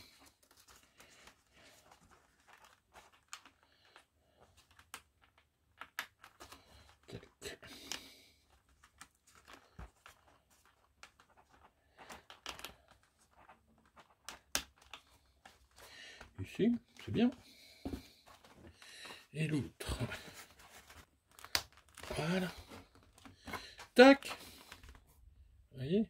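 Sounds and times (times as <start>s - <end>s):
foam parts clicking and creaking: 0.0s - 25.2s.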